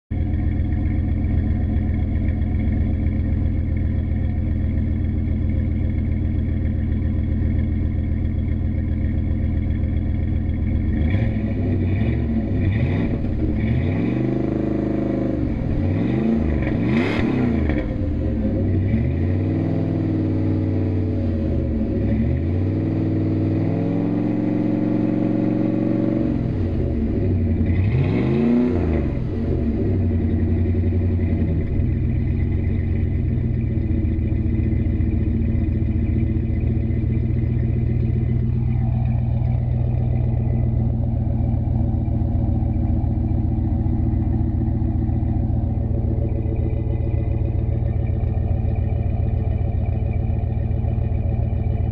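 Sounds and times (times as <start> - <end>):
truck engine idling and revving: 0.0 - 51.9.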